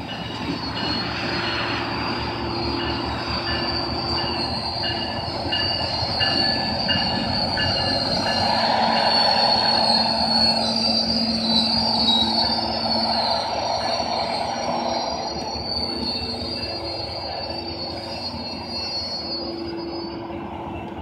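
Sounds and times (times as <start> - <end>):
train brakes squealing: 0.0 - 21.0
train rumble: 0.0 - 21.0.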